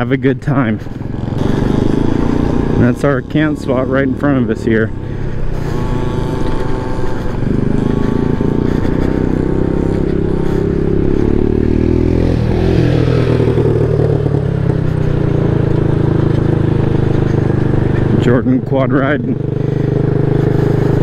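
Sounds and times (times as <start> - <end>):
gravel clatter under tyres: 0.0 - 21.0
quad engine: 0.0 - 21.0
scooter engine running: 0.0 - 21.0.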